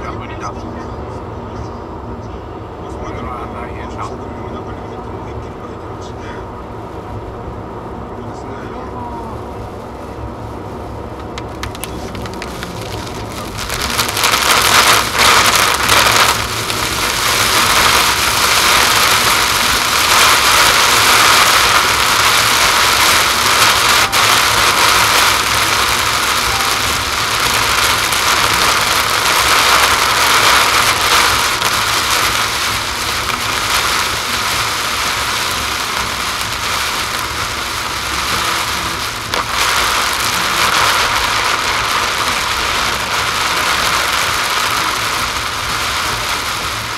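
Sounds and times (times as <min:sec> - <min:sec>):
tyre and road noise: 0:00.0 - 0:46.9
heavy rain on car roof: 0:08.5 - 0:46.9.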